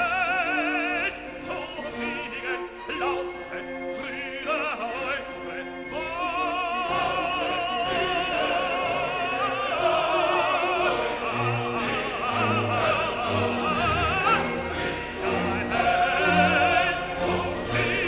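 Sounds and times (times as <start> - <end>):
operatic voice singing: 0.0 - 18.0
orchestra holding notes: 0.0 - 18.0.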